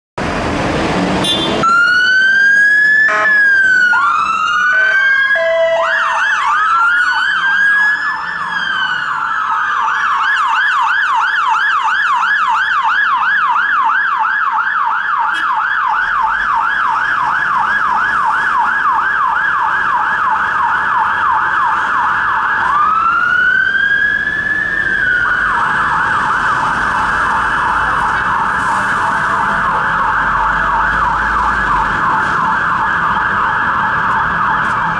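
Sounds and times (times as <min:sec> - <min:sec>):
fire engine sirens wailing: 0:00.4 - 0:34.9.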